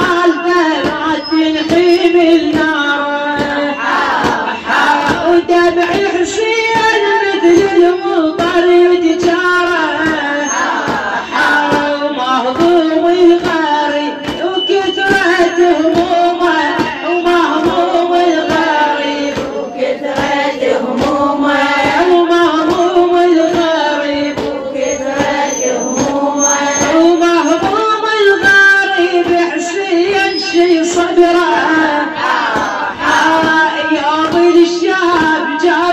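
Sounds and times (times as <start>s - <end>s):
person chanting a lament: 0.0s - 35.9s
rhythmic chest-beating: 0.0s - 35.9s.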